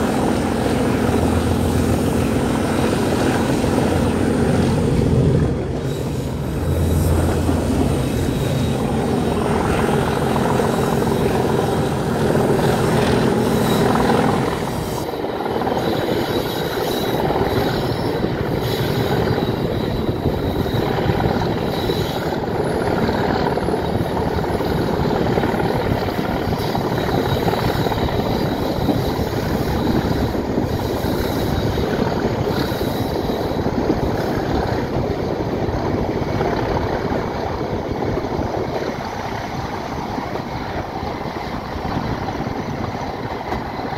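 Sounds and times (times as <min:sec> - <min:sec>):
diesel locomotive engine: 0:00.0 - 0:43.9
train wheels clattering on track: 0:00.0 - 0:43.9
wind: 0:00.0 - 0:43.9.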